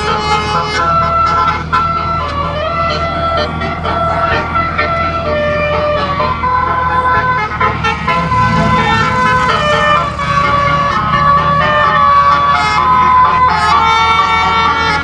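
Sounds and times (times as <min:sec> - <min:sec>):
electric air horns playing a tune: 0:00.0 - 0:15.0.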